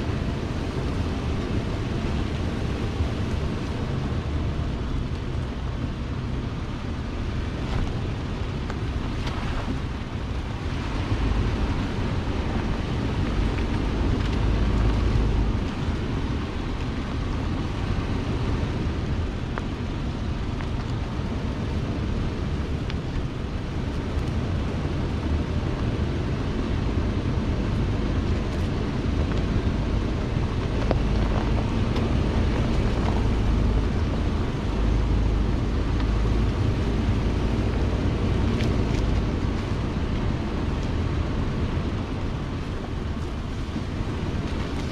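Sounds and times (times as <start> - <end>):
vehicle engine and tyres rumbling: 0.0 - 44.9
wind buffeting microphone: 0.0 - 44.9.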